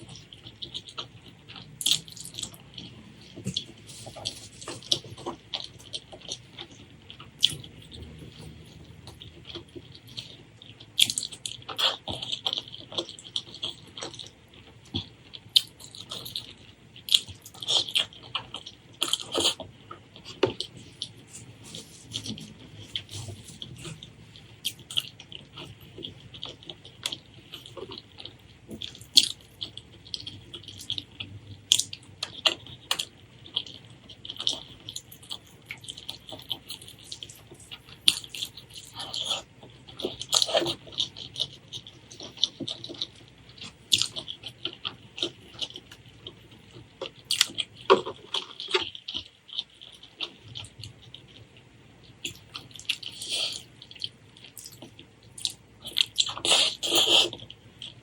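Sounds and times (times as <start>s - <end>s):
chewing soft food: 0.0s - 58.0s.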